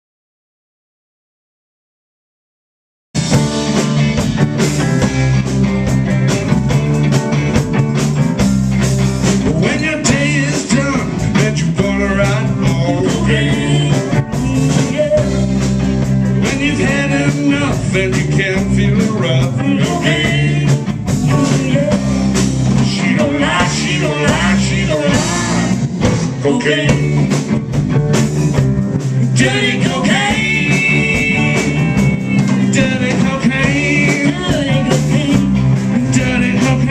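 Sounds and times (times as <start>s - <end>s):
live blues band playing: 3.2s - 36.9s.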